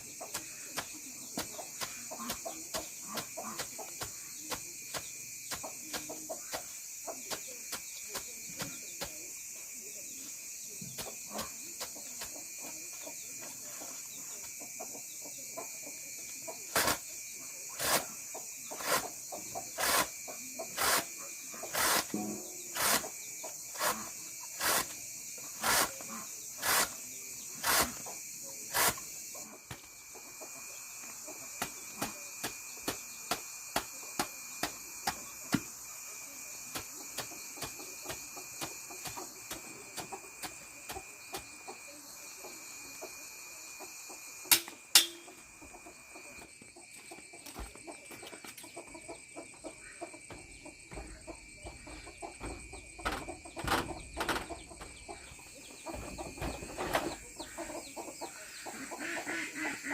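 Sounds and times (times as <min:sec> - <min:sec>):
high insect-like chirring: 0:00.0 - 0:59.9.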